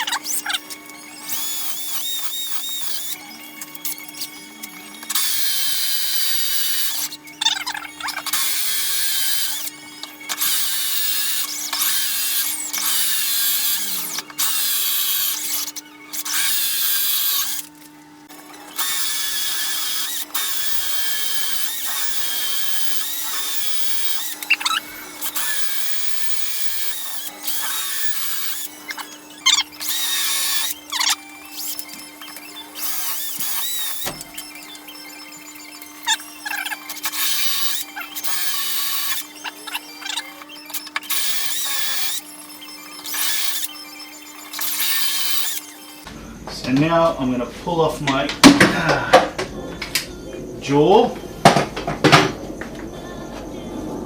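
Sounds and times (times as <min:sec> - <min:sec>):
power drill boring into wood: 0:00.0 - 0:46.1.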